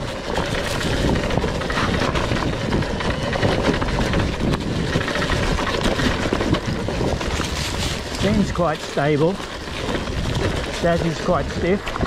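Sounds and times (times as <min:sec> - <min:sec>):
dirt bike clattering over rocks: 0:00.0 - 0:12.0
wind on microphone: 0:00.0 - 0:12.0.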